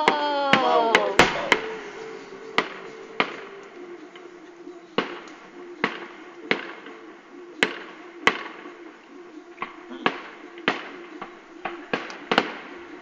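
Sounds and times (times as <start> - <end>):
faint steady tone: 0.0 - 13.0
fireworks bangs: 0.0 - 13.0.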